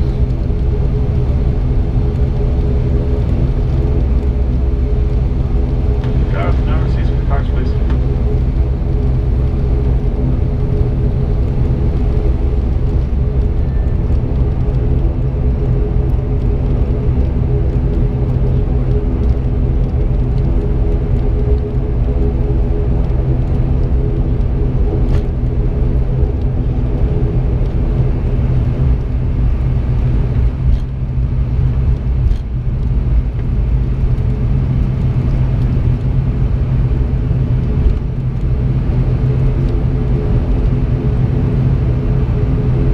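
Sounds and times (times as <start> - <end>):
turboprop engines humming: 0.0 - 42.9.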